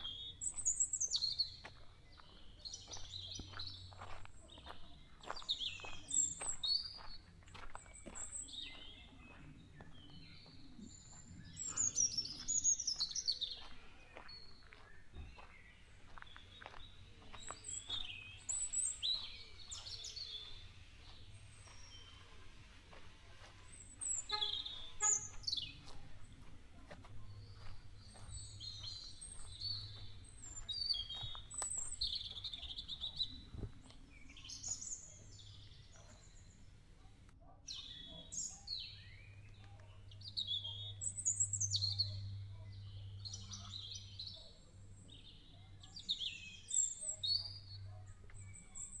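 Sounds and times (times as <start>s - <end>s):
birds chirping and calling: 0.0s - 37.0s, 37.7s - 49.0s.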